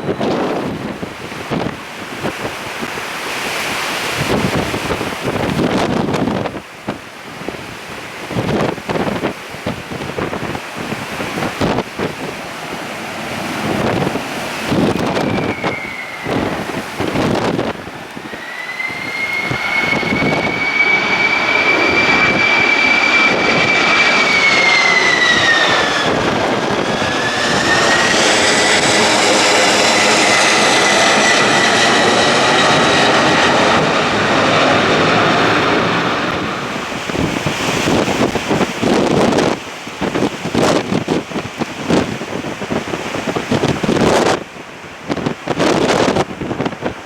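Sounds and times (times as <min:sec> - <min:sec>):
jet airliner passing: 0:00.0 - 0:47.0.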